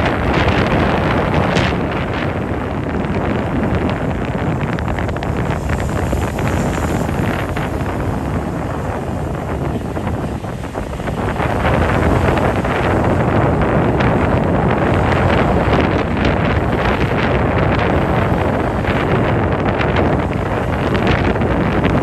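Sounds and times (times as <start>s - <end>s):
road and engine rumble: 0.0s - 22.0s
wind buffeting microphone: 0.0s - 22.0s.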